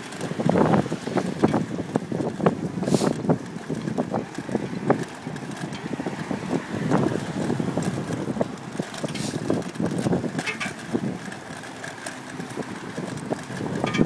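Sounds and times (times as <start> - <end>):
bicycle rattling over bumps: 0.0 - 14.0
wind buffeting microphone: 0.0 - 14.0.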